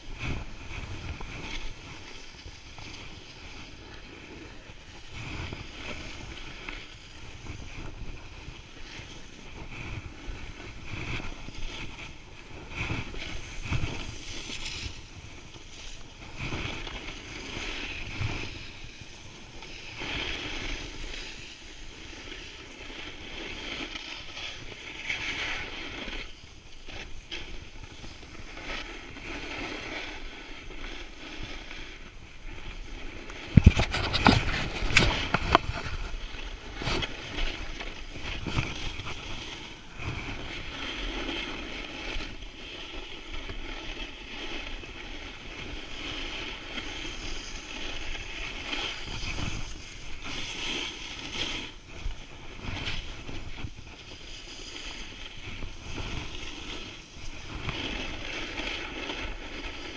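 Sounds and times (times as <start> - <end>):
skis scraping over snow: 0.0 - 59.9
wind noise on microphone: 0.0 - 59.9.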